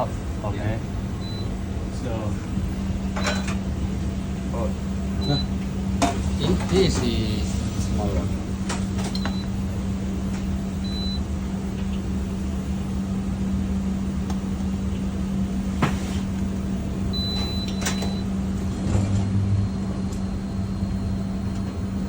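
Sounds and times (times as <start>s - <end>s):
cooling fan: 0.0s - 22.0s
induction cooker humming: 0.0s - 22.0s.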